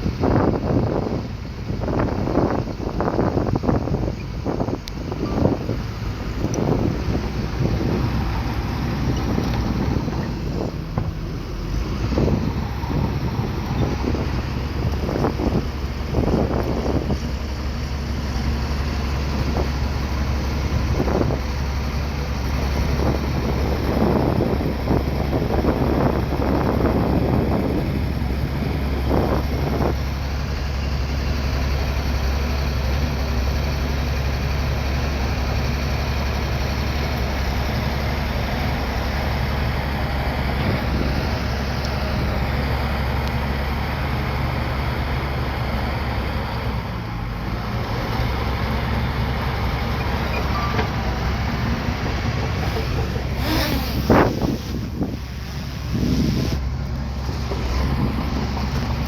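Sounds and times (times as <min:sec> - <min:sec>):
bulldozer engine humming: 0:00.0 - 0:59.0.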